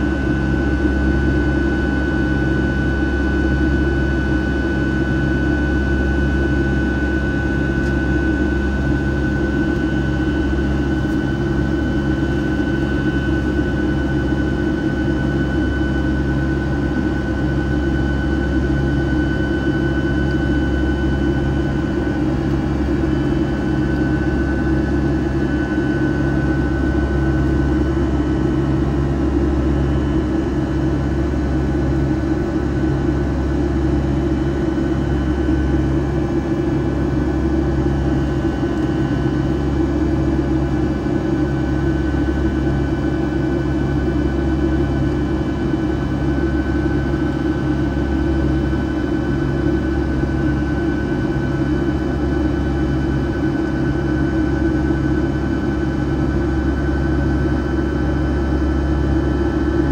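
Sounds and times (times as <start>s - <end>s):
jet engine rumble and whine: 0.0s - 59.9s.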